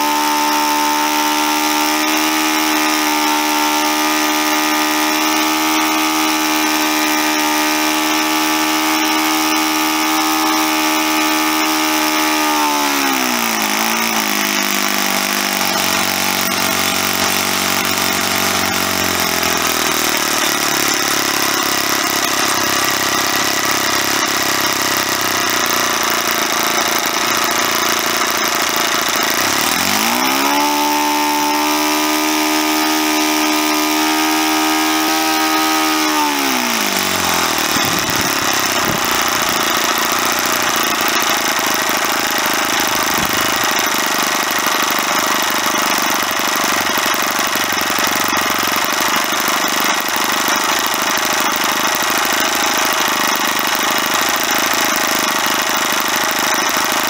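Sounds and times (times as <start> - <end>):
model aircraft engine running: 0.0 - 57.0.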